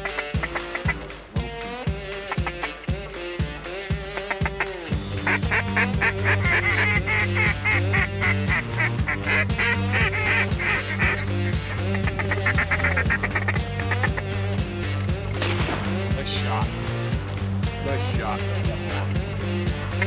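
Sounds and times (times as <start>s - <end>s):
music with a steady beat: 0.0s - 20.0s
deep bass line: 2.9s - 20.0s.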